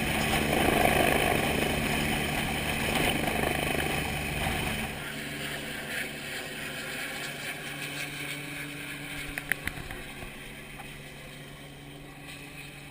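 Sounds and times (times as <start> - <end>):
helicopter droning: 0.0 - 12.9.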